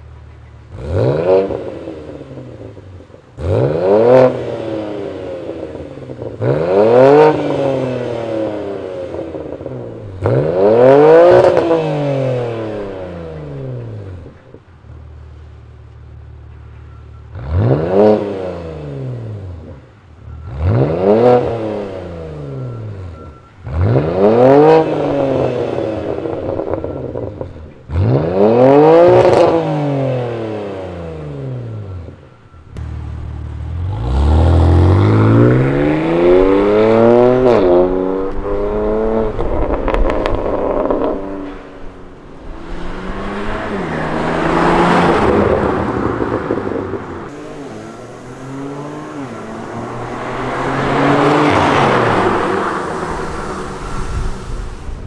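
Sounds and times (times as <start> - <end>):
car engine revving: 0.6 - 15.6, 16.9 - 55.0
car accelerating away: 0.7 - 14.6, 17.3 - 55.0.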